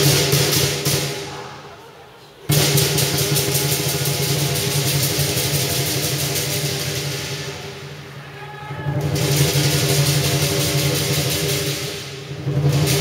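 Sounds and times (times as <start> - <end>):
cymbals clashing: 0.0 - 1.7, 2.5 - 13.0
large drum beating: 2.5 - 13.0.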